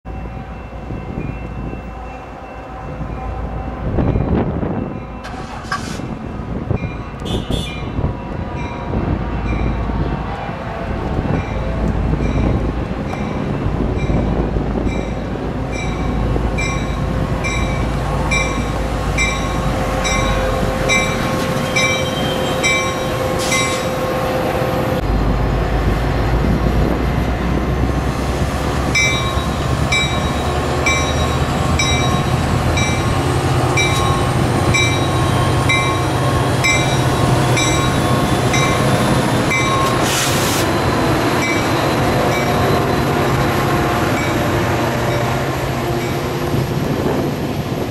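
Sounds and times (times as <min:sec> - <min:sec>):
diesel train passing with rumble: 0:00.0 - 0:47.9.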